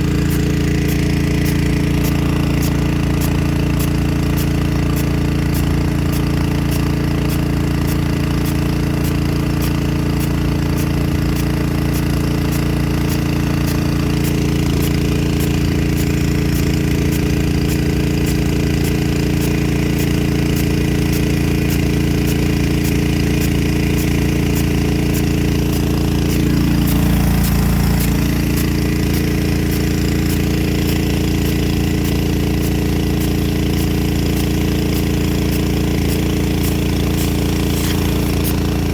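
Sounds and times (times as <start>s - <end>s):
engine drone: 0.0s - 38.9s
water jet spraying: 0.0s - 38.9s
sprinkler drive arm clacking: 0.2s - 38.9s.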